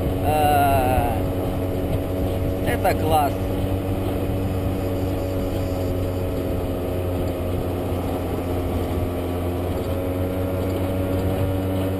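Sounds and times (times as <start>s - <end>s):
road and wind noise: 0.0s - 11.9s
scooter engine droning: 0.0s - 11.9s.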